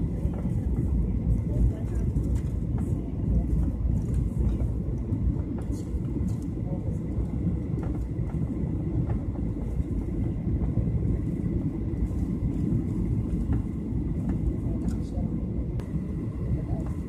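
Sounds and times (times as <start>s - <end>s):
jet cabin engine rumble: 0.0s - 17.0s.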